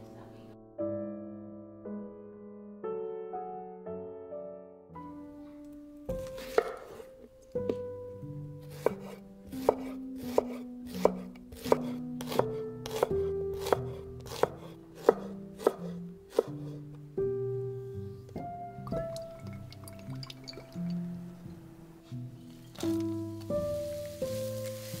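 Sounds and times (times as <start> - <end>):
soft background music: 0.0 - 25.0.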